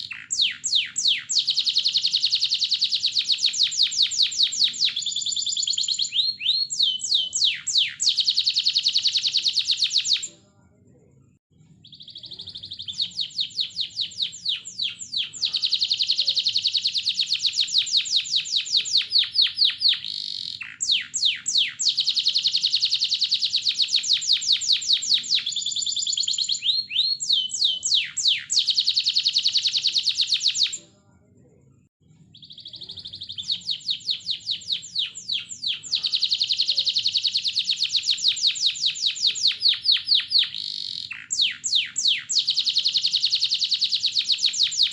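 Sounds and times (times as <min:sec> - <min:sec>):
canary singing trills: 0:00.0 - 0:10.4, 0:11.6 - 0:30.9, 0:32.2 - 0:44.9.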